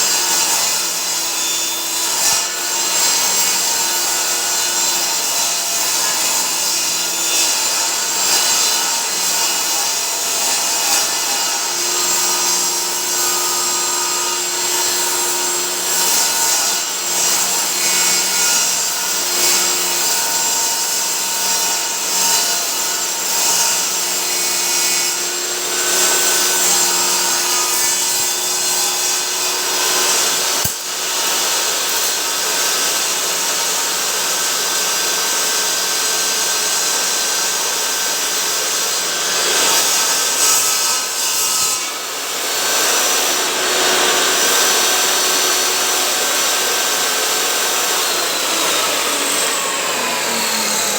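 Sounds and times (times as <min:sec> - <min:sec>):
power saw cutting wood: 0:00.0 - 0:50.9.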